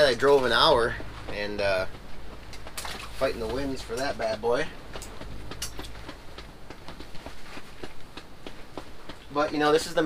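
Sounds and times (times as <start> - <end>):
low steady rumble: 0.0 - 10.0
light clicks and taps: 0.2 - 10.0.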